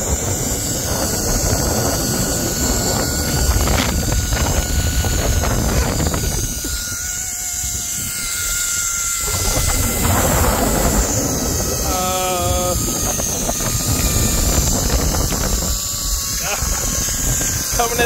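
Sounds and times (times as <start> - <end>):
pulley whine on cable: 0.0 - 18.0
wind rushing over microphone: 0.0 - 18.0.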